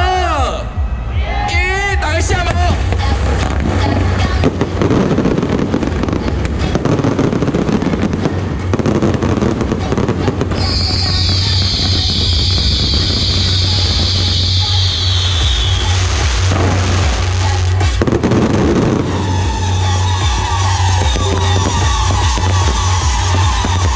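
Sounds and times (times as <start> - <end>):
crackling firework stars: 2.5 - 23.9
firework launches and bangs: 2.9 - 23.9.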